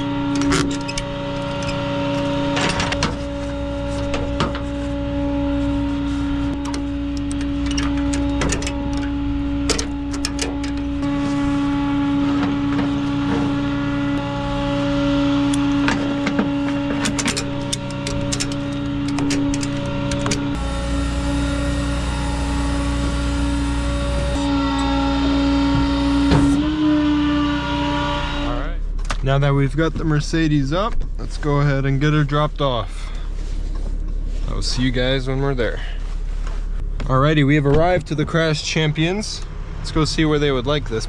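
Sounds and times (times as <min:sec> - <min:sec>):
deeper engine rumble: 0:00.0 - 0:41.0
truck engine humming: 0:00.0 - 0:41.0.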